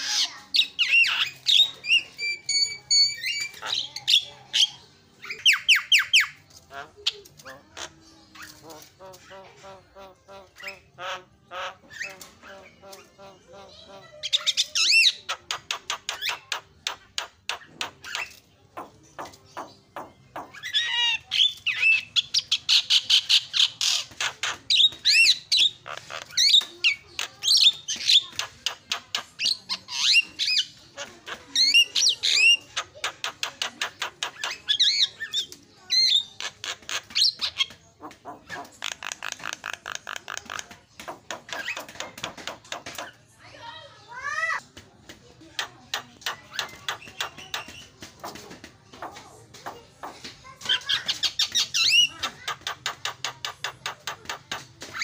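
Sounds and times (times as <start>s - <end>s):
myna bird singing: 0.0s - 43.4s, 44.3s - 55.0s.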